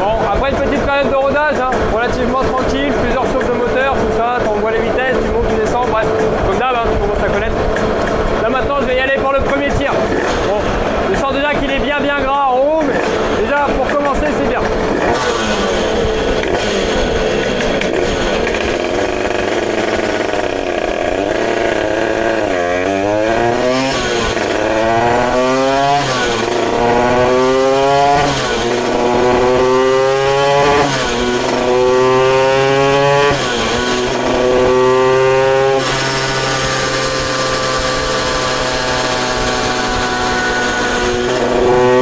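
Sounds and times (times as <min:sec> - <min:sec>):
two-stroke moped engine revving: 0:00.0 - 0:42.0.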